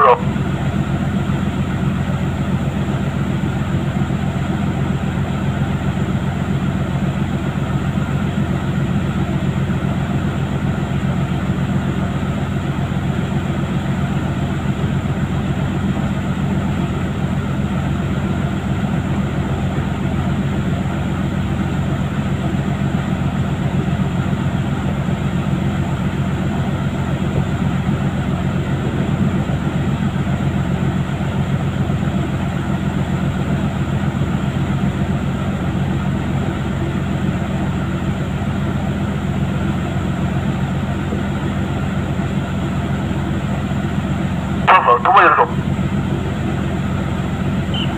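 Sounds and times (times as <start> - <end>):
ship engine and deck machinery drone: 0.0 - 47.9.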